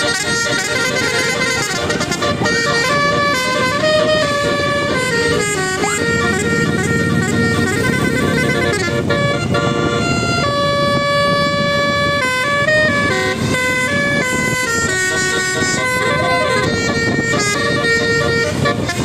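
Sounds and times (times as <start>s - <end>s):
air horns playing a tune: 0.0s - 19.0s
bus engine rumbling: 0.0s - 19.0s.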